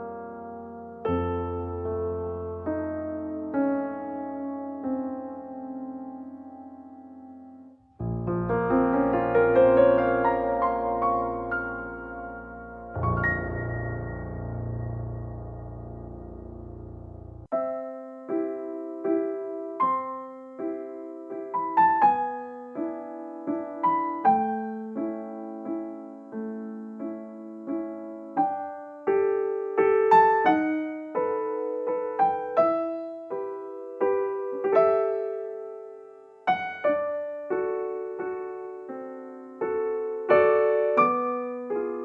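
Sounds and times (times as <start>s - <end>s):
gentle piano melody: 0.0s - 42.0s.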